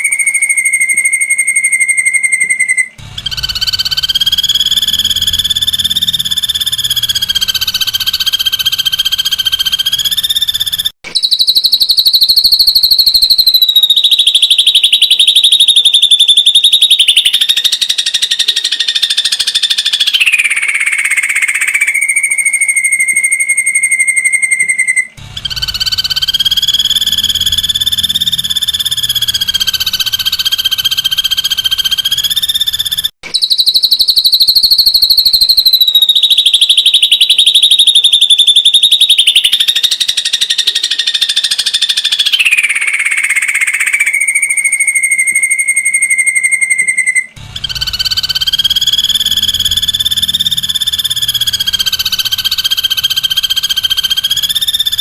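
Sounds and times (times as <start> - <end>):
bird giving rapid trills: 0.0 - 55.0.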